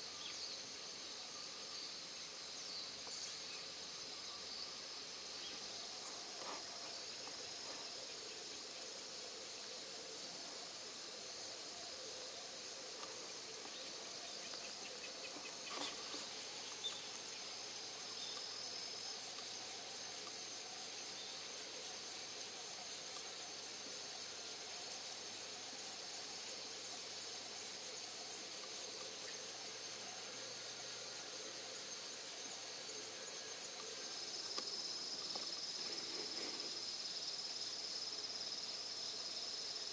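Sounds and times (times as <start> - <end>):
rhythmic insect chirping: 0.0 - 39.9.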